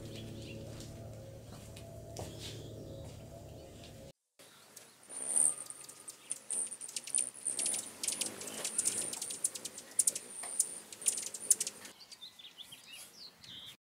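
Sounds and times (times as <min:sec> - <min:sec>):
hummingbirds chittering: 0:00.0 - 0:13.7.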